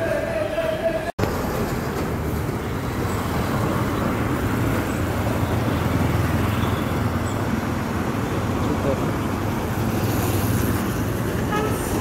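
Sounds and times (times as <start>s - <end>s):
bus engine drone: 0.0s - 12.0s
road traffic passing: 0.0s - 12.0s.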